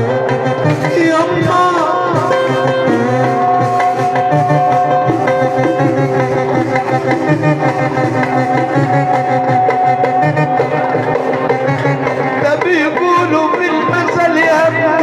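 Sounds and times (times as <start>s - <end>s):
hand drum rhythm: 0.0s - 15.0s
melody instrument long note: 0.0s - 15.0s.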